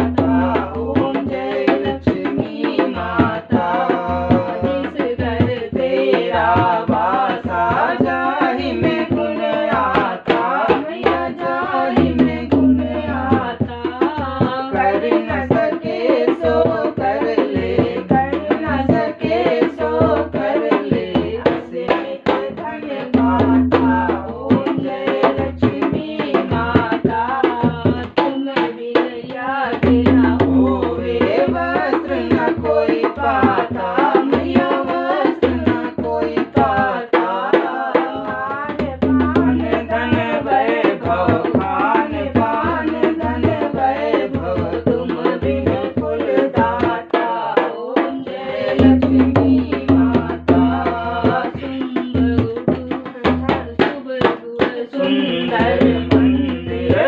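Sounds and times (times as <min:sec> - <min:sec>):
devotional singing: 0:00.0 - 0:57.0
hand drum beat: 0:00.0 - 0:57.0.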